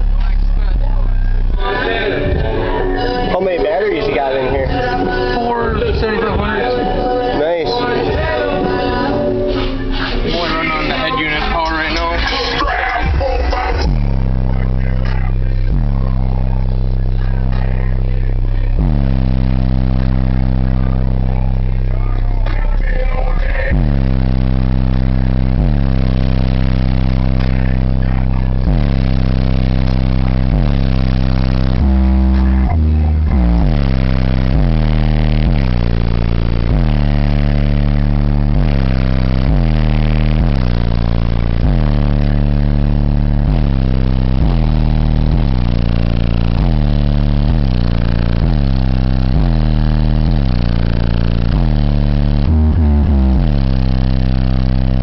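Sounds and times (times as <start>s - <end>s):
bass-heavy music through car speakers: 0.0s - 55.0s.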